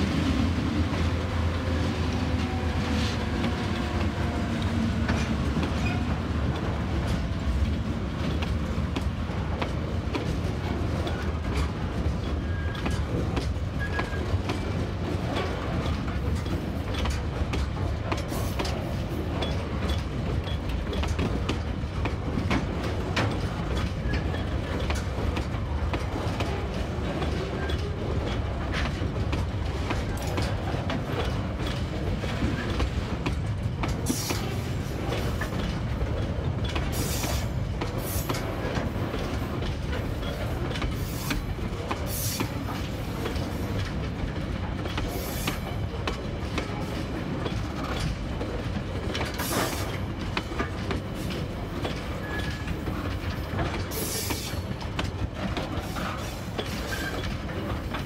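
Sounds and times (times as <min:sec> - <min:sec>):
freight train rumbling past: 0:00.0 - 0:58.0
wheels clicking over rail joints: 0:00.9 - 0:58.0.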